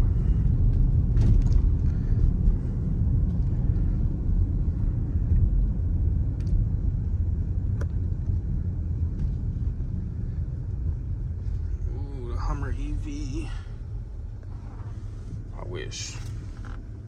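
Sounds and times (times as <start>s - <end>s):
car driving low rumble: 0.0s - 17.0s.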